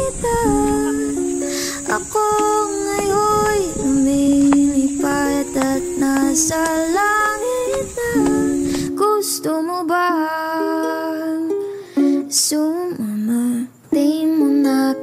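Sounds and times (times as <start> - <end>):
person singing with ukulele: 0.0 - 15.0.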